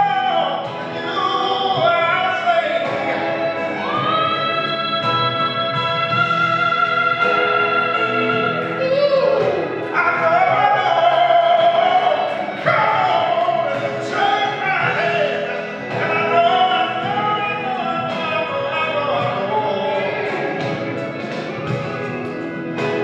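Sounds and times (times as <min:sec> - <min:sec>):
man singing into microphone: 0:00.0 - 0:21.6
musical accompaniment: 0:00.0 - 0:23.0.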